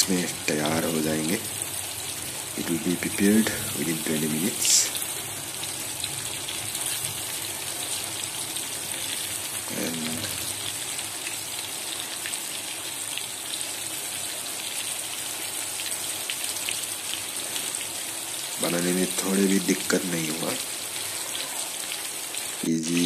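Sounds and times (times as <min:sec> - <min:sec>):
chicken deep-frying in oil: 0:00.0 - 0:23.0.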